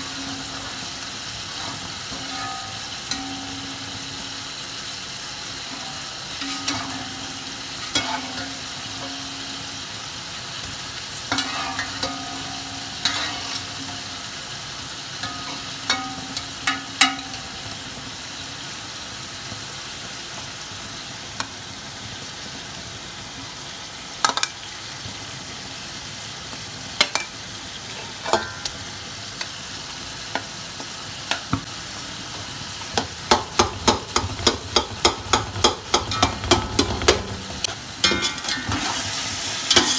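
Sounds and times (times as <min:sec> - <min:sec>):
meat and onions sizzling in a pot: 0:00.0 - 0:39.9.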